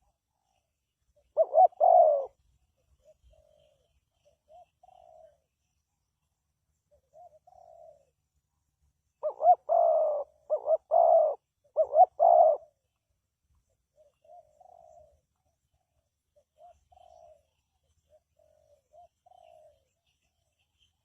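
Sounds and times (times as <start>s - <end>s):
dove cooing: 0.0s - 5.6s, 6.8s - 8.2s, 9.2s - 12.9s, 13.6s - 20.0s.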